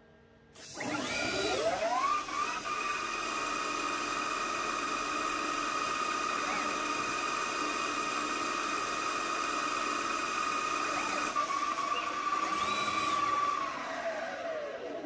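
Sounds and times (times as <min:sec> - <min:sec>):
lathe spindle whine: 0:00.6 - 0:15.0.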